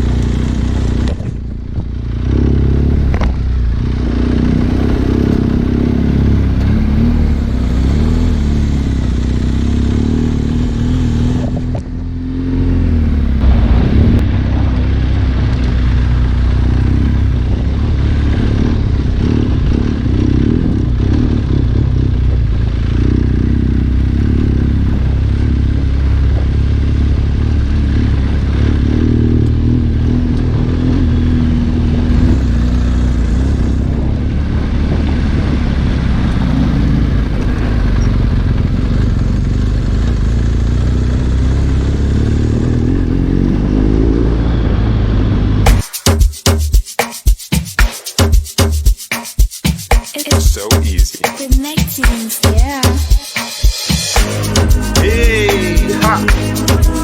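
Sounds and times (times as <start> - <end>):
motorcycle engine droning: 0.0 - 45.6.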